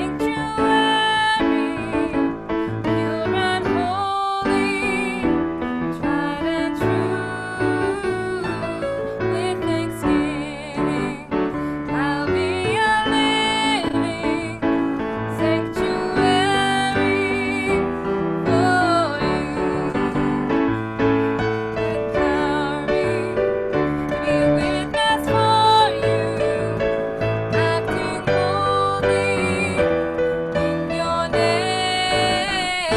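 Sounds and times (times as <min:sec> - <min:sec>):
piano music: 0:00.0 - 0:32.9.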